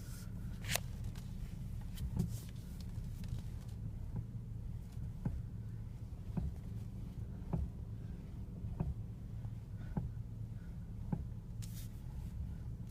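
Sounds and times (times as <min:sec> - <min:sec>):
steady low hum: 0:00.0 - 0:12.9
steering clunk knocks: 0:01.0 - 0:12.9.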